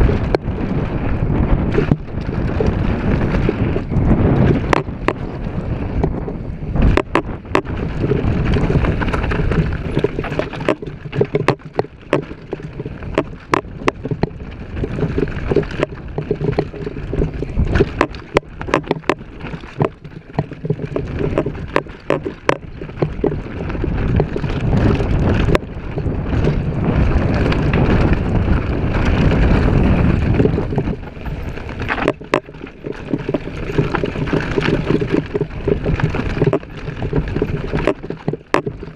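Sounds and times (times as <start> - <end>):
bike clacking and rattling: 0.0 - 38.9
tyres rumbling on dirt: 0.0 - 38.9
wind buffeting microphone: 0.0 - 38.9.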